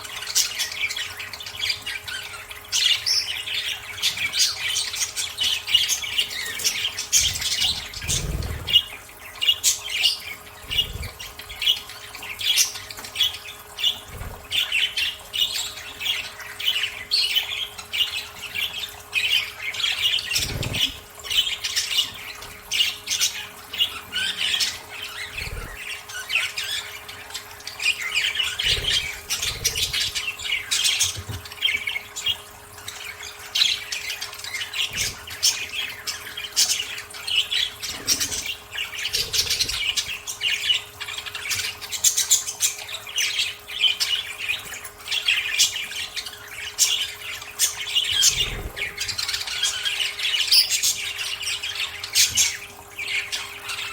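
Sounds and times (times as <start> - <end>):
budgerigars chattering and squawking: 0.0 - 53.9.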